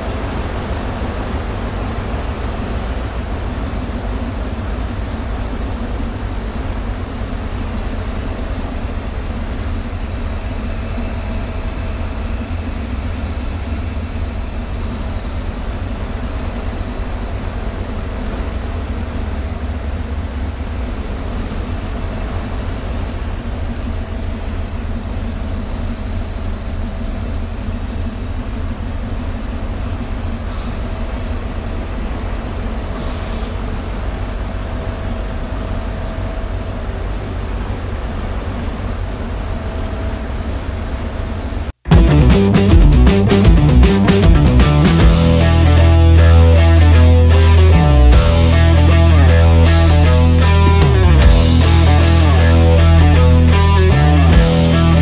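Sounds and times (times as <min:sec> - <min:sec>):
car engine running at low speed: 0:00.0 - 0:55.0.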